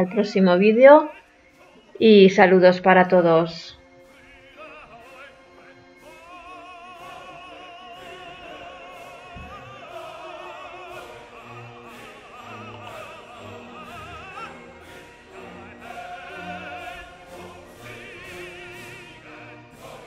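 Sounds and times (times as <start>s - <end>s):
sustained classical accompaniment: 0.0s - 20.0s
voice singing with vibrato: 0.0s - 20.0s.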